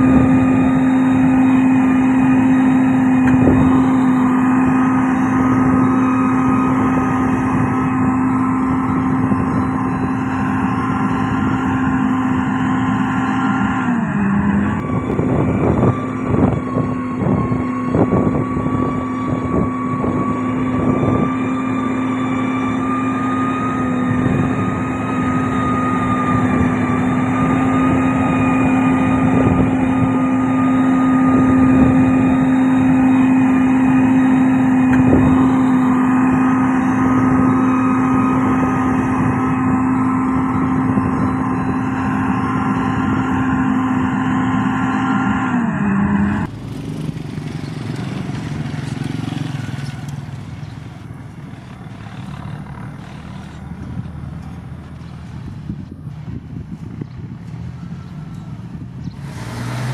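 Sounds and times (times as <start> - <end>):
diesel machinery engine running: 0.0 - 59.9.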